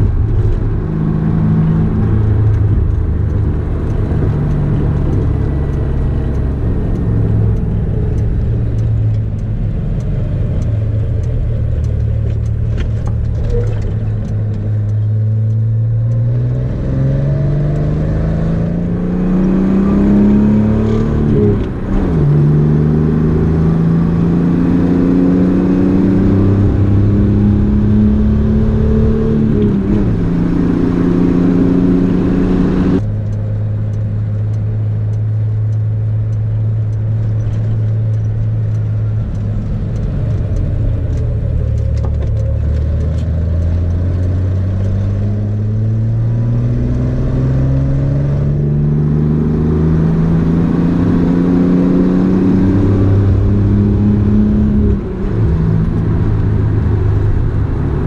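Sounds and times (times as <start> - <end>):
car engine running: 0.0 - 16.6, 17.3 - 58.0.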